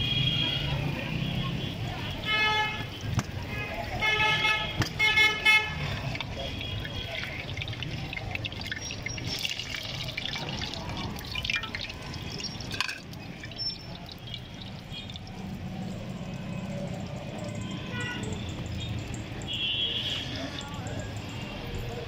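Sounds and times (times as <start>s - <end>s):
oil sizzling and crackling: 1.2s - 21.8s.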